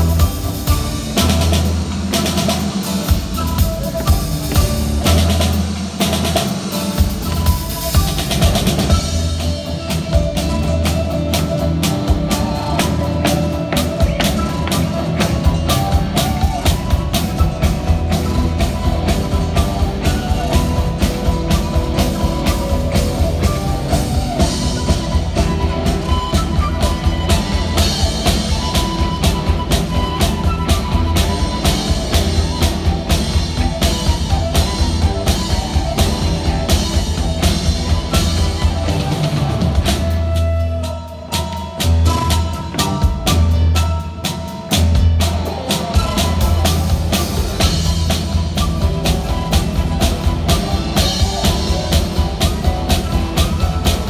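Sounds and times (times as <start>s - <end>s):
drums steady beat: 0.0s - 54.0s
live rock band playing: 0.0s - 54.0s.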